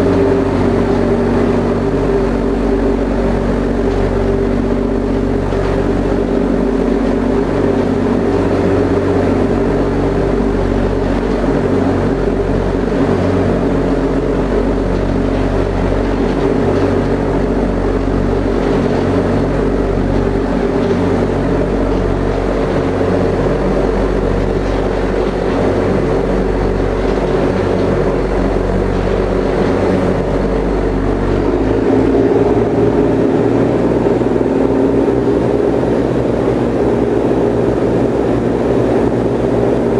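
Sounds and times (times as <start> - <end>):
ferry engines running: 0.0 - 39.9
rush of water and wind: 0.0 - 39.9.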